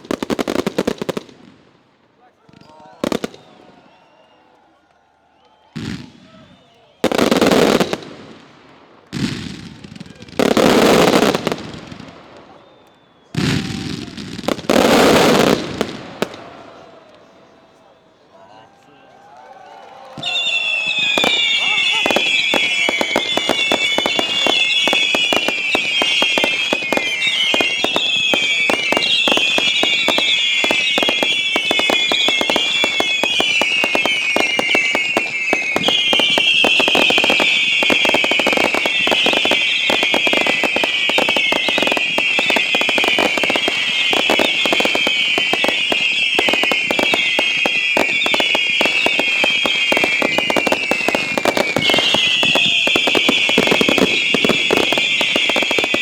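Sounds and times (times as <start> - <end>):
fireworks crackling and popping: 0.0 - 4.2, 5.4 - 17.2, 20.1 - 56.0
fireworks whistles falling in pitch: 2.5 - 4.6, 5.3 - 8.4, 9.1 - 16.5, 20.2 - 56.0.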